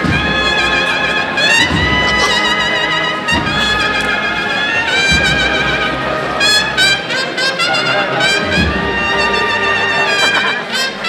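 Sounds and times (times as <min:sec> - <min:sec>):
steady marching drums: 0:00.0 - 0:10.7
cornets playing sustained notes: 0:00.0 - 0:11.0.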